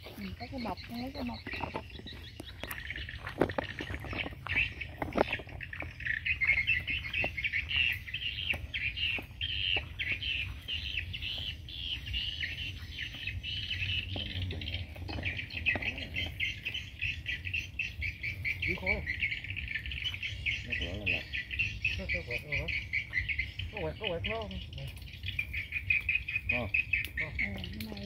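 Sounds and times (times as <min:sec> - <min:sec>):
birds chirping chorus: 0:00.0 - 0:28.0
twigs cracking and leaves rustling: 0:00.0 - 0:28.0.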